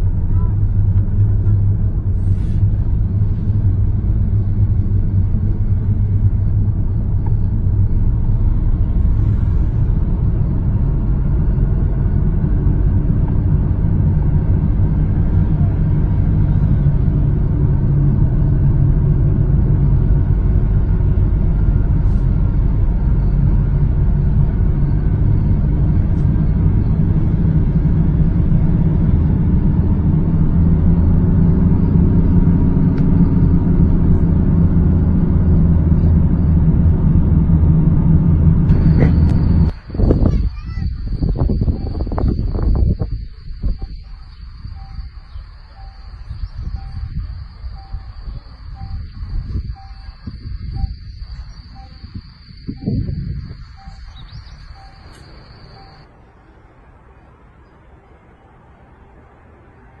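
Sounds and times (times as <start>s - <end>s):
vehicle engine and road noise: 0.0s - 60.0s.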